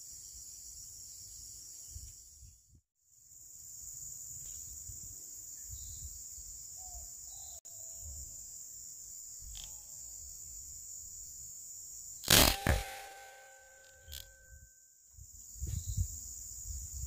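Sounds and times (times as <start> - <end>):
insect chorus buzzing: 3.1 - 17.0.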